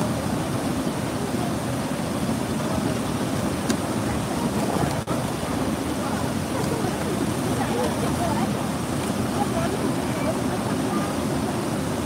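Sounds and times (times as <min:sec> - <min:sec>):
water rushing over dam spillway: 0:00.0 - 0:12.0.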